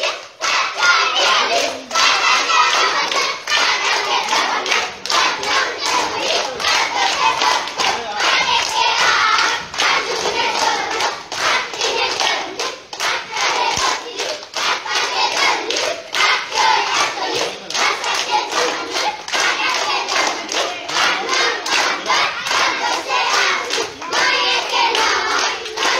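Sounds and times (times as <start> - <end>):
children chanting: 0.0 - 25.9
children clapping: 0.0 - 25.9.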